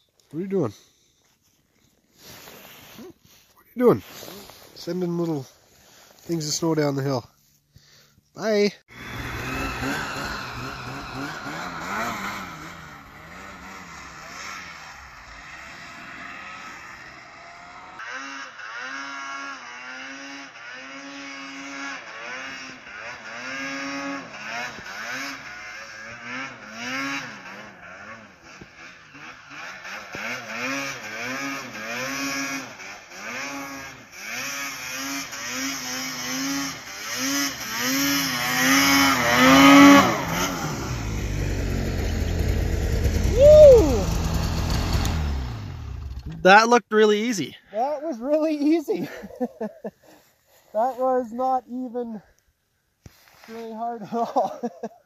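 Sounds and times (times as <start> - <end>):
snowmobile engine revving: 2.1 - 7.2, 8.4 - 52.2, 53.1 - 54.9.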